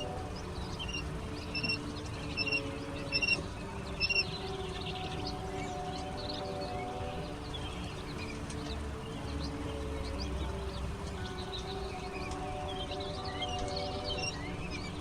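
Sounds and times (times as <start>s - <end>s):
chicks peeping: 0.0s - 15.0s
steady low drone: 0.0s - 15.0s.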